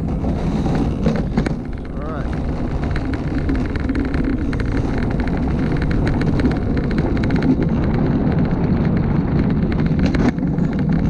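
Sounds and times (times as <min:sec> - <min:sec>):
cart wheels rumbling on concrete: 0:00.0 - 0:11.0
small rattling clicks: 0:00.9 - 0:11.0.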